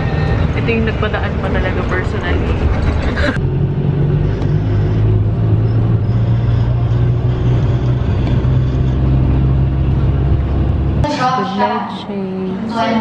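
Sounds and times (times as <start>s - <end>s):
bus engine hum: 0.0s - 13.0s
road noise: 0.0s - 13.0s.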